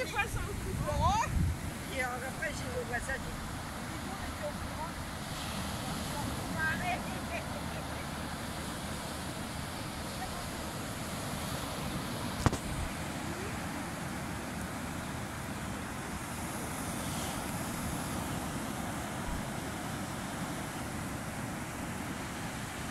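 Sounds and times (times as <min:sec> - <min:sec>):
wind buffeting microphone: 0:00.0 - 0:22.3
waves breaking on sandy beach: 0:00.0 - 0:22.9.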